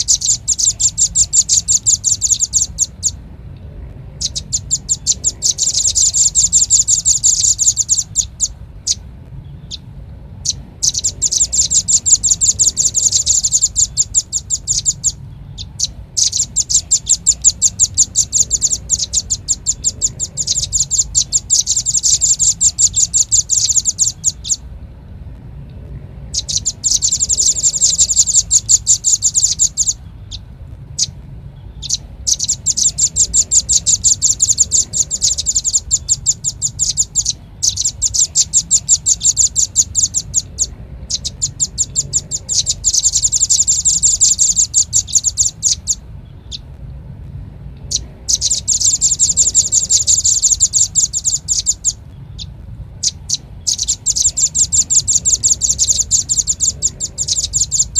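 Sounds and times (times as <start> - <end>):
bird high-pitched trills: 0.0 - 3.3, 4.0 - 24.7, 26.2 - 46.8, 47.7 - 57.9
low steady hum: 0.0 - 57.9.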